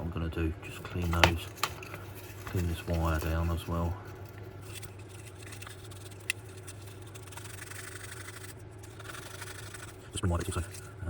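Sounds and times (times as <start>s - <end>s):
wire rubbing and scraping: 0.7s - 11.0s.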